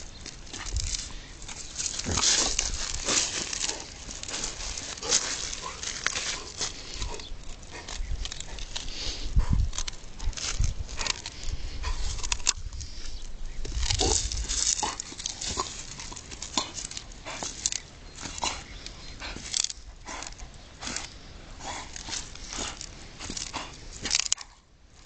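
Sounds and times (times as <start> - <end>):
dog gnawing cracking wooden stick: 0.0 - 8.9, 9.6 - 11.4, 13.6 - 21.2, 21.8 - 24.6.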